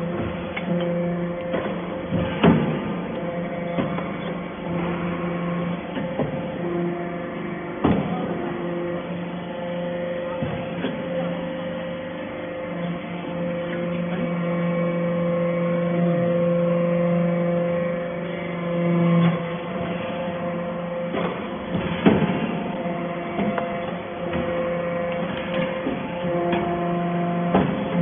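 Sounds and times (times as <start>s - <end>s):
hydraulic baler humming: 0.0s - 28.0s.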